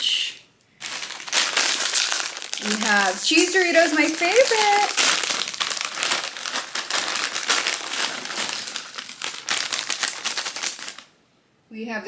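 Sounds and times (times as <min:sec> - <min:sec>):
snack bag crinkling: 0:00.8 - 0:11.1.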